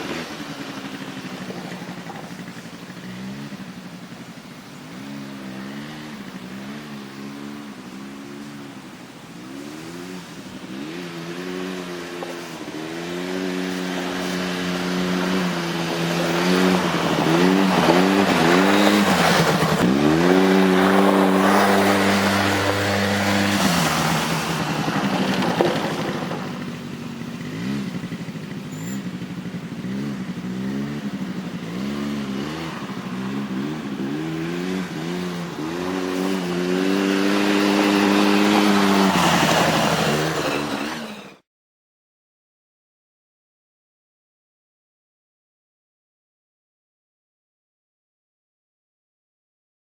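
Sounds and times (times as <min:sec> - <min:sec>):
quad engine revving: 0:00.0 - 0:41.4.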